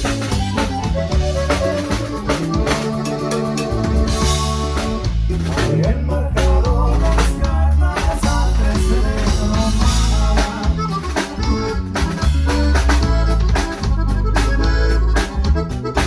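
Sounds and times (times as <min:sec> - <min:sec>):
band playing: 0:00.0 - 0:16.0
bass line: 0:00.0 - 0:16.0
drum kit: 0:00.0 - 0:16.0.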